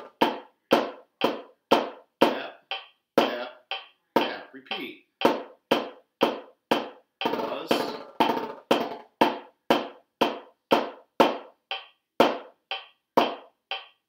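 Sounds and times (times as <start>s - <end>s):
metronome clicking: 0.0s - 14.0s
snare drum strokes: 0.0s - 14.0s.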